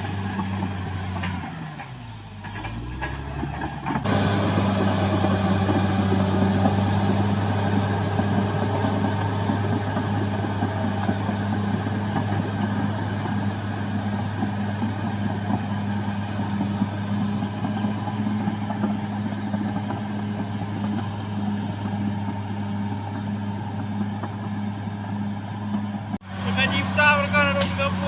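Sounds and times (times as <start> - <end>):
bulldozer diesel engine droning: 0.0 - 28.0.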